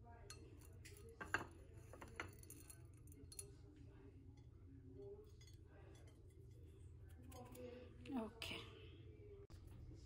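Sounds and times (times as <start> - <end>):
faint low room hum: 0.0 - 10.0.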